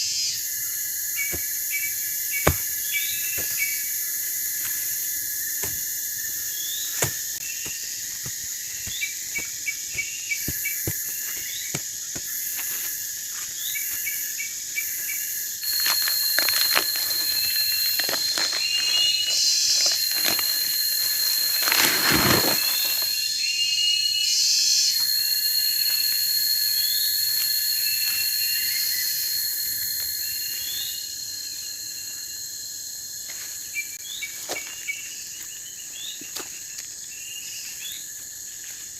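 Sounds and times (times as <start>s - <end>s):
crickets trilling: 0.0s - 38.9s
high steady insect tone: 0.0s - 38.9s.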